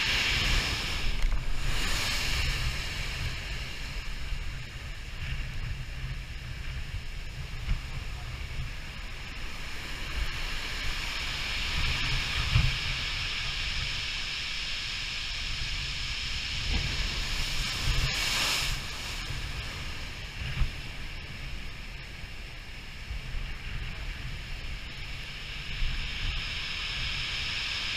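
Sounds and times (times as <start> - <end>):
ocean surf hissing: 0.0 - 27.9
wind buffeting microphone: 0.0 - 27.9.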